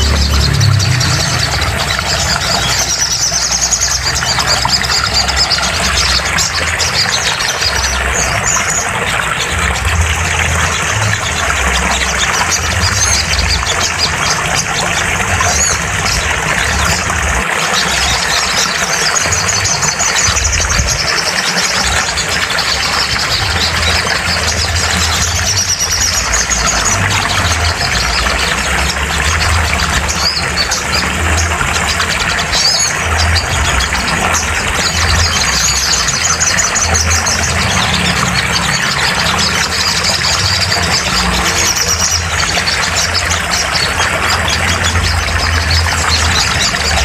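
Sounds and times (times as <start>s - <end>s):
loud low hum: 0.0s - 47.0s.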